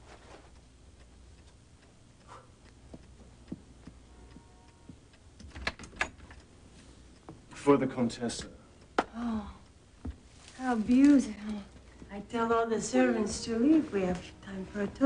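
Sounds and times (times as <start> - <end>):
low hum: 0.0 - 7.2, 8.6 - 15.0.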